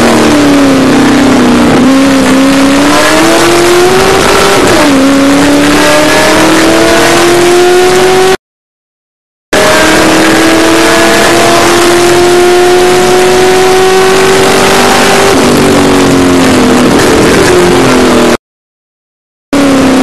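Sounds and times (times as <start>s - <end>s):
race car engine at full throttle: 0.0s - 8.4s, 9.6s - 18.4s, 19.5s - 20.0s.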